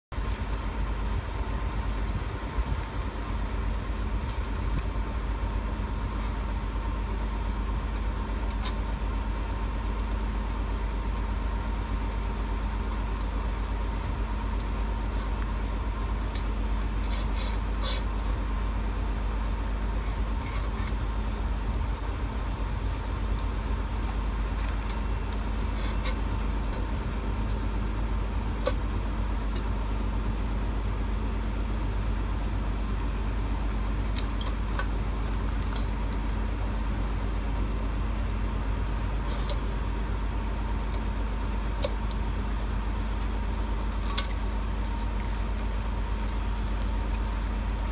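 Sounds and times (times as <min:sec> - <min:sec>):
constant tones: 0:00.0 - 0:47.9
steady engine hum: 0:00.0 - 0:47.9.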